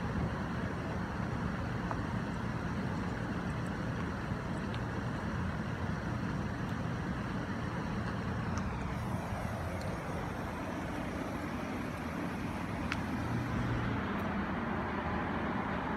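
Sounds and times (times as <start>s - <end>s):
low rumbling hum: 0.0s - 15.8s.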